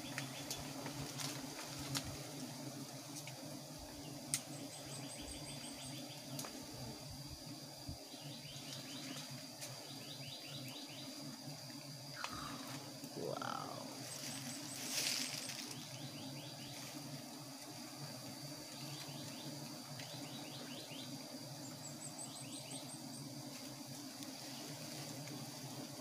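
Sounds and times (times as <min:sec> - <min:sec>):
high insect whine: 0:00.0 - 0:26.0
low hum of bees: 0:00.0 - 0:26.0.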